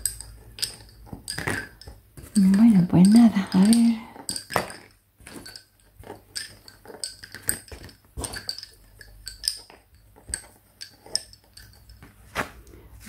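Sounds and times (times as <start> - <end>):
lace bobbins clicking together: 0.0 - 12.8.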